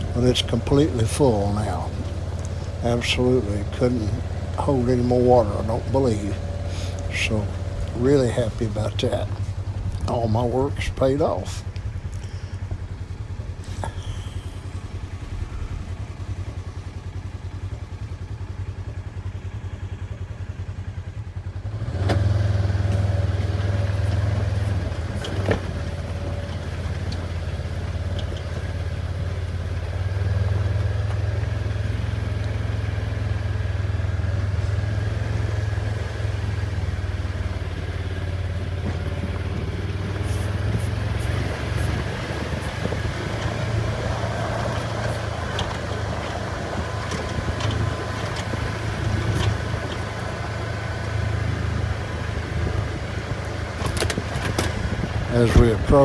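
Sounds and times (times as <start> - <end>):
small vehicle engine running: 0.0 - 56.0.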